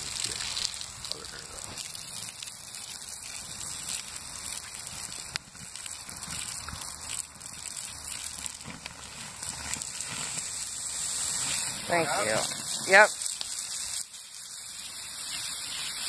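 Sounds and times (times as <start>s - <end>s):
wet embers hissing and sizzling: 0.0s - 16.0s.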